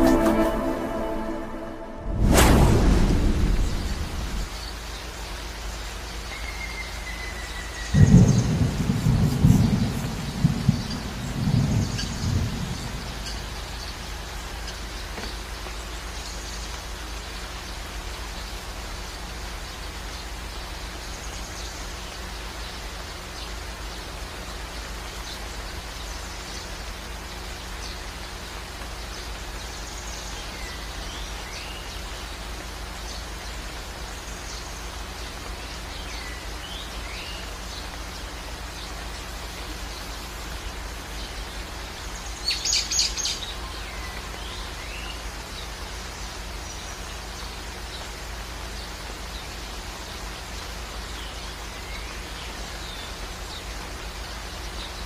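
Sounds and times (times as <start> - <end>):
rain-like hiss: 0.0 - 1.4, 2.1 - 55.0
low steady hum: 0.0 - 55.0
birds chirping: 2.8 - 55.0.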